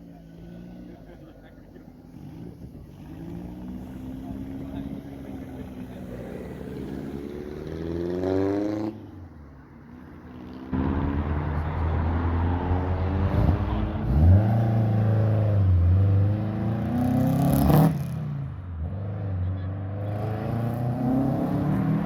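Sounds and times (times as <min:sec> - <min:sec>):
car engines accelerating: 0:00.0 - 0:22.0.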